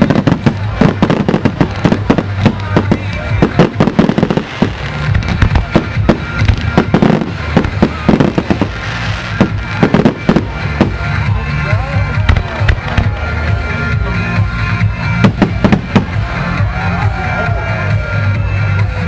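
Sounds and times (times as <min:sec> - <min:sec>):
fireworks banging and crackling: 0:00.0 - 0:17.1.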